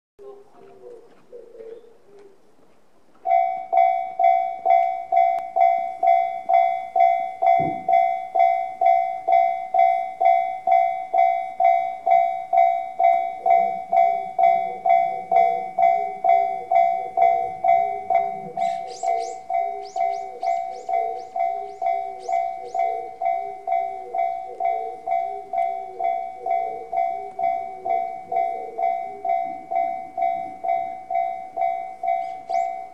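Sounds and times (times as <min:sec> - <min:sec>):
electronic crossing bell ringing: 0:03.2 - 0:32.9.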